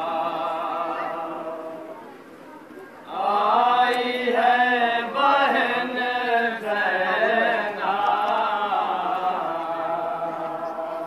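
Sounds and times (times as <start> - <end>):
men chanting a lament: 0.0 - 2.1, 3.1 - 11.0.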